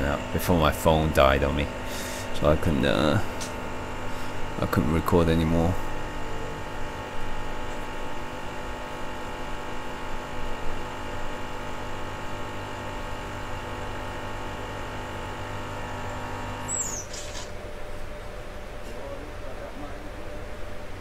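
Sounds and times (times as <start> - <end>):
espresso machine pump humming: 0.0 - 19.6.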